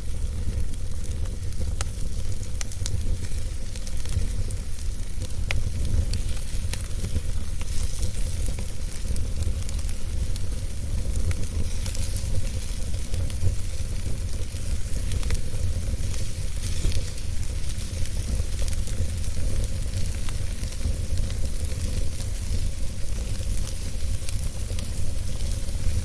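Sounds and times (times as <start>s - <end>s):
fire crackles and pops: 0.0s - 26.0s
fire hissing and rumbling: 0.0s - 26.0s.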